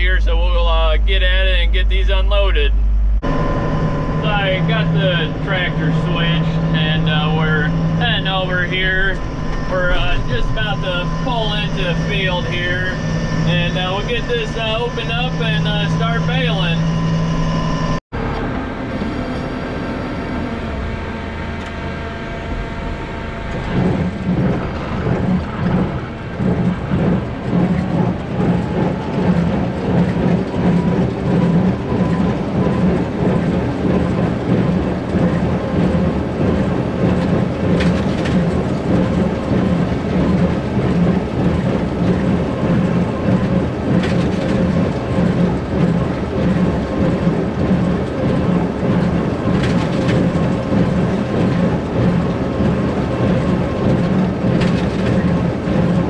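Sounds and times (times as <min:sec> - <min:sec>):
tractor running: 0:00.0 - 0:56.0.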